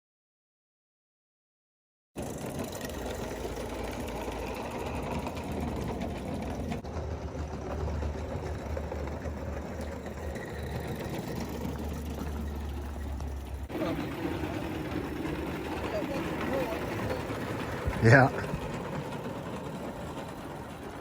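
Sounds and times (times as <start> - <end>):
model steam locomotive chuffing: 2.2 - 21.0.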